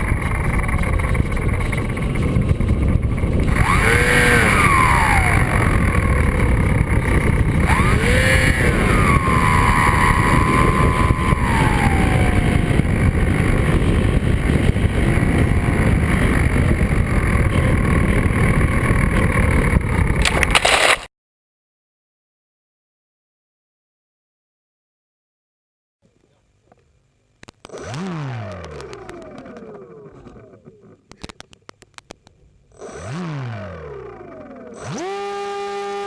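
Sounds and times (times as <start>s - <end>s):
propeller motor whining: 0.0s - 21.0s, 27.6s - 36.0s.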